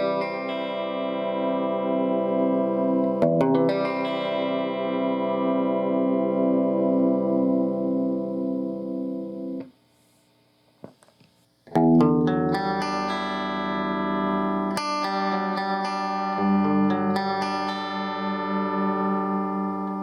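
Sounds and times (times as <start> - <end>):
electric guitar chords: 0.0 - 9.7, 11.7 - 20.0.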